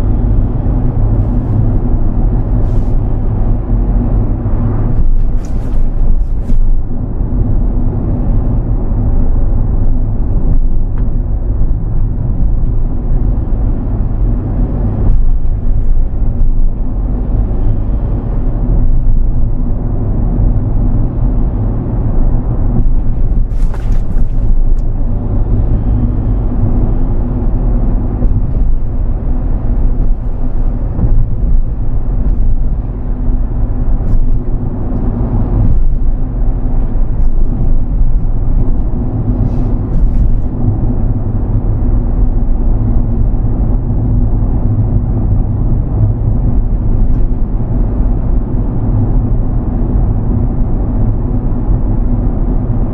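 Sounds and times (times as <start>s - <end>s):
van engine rumble: 0.0s - 52.9s.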